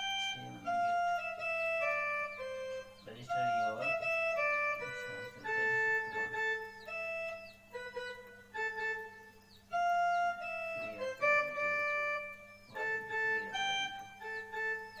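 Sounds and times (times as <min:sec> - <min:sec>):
faint steady hum: 0:00.0 - 0:15.0
keyboard playing slow melody: 0:00.0 - 0:15.0.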